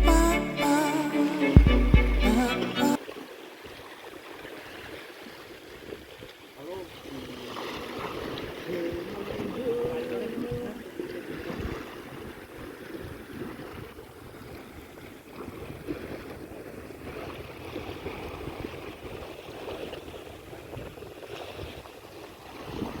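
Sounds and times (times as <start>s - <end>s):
waves: 0.0s - 23.0s
wind: 2.9s - 23.0s.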